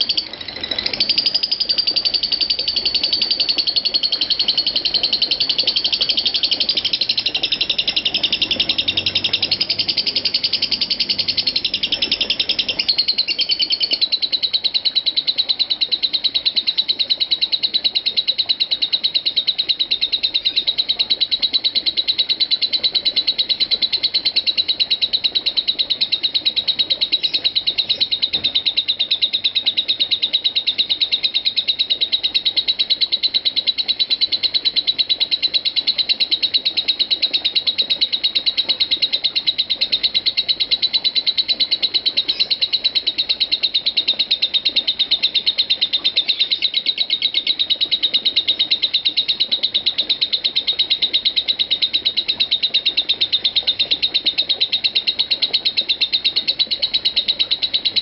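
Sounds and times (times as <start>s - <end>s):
lovebird chattering song: 0.0s - 58.0s.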